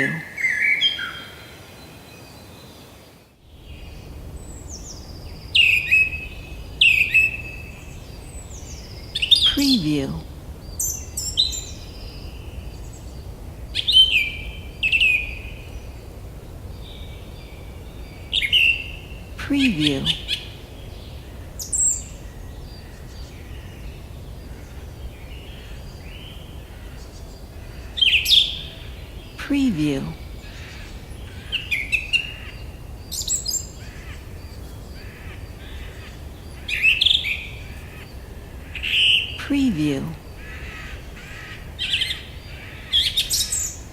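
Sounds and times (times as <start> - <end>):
forest birds chirping: 0.0 - 43.9.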